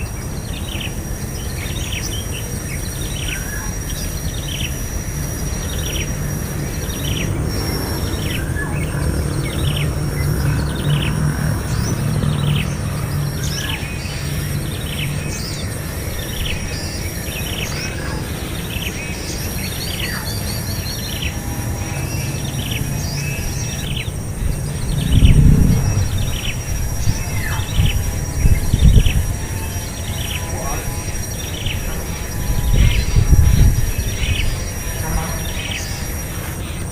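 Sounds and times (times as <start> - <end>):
small bird chirping: 0.0 - 36.8
high insect whine: 0.0 - 36.9
low outdoor rumble: 4.9 - 36.9.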